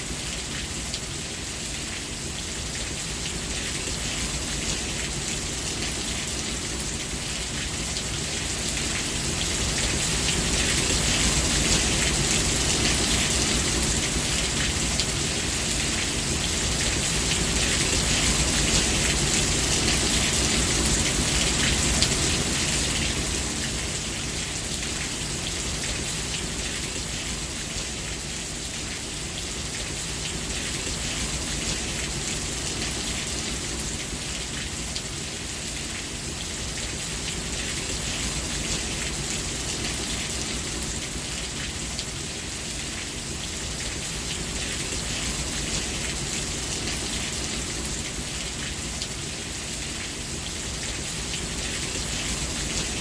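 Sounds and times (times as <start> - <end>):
dense rainfall hissing: 0.0 - 53.0.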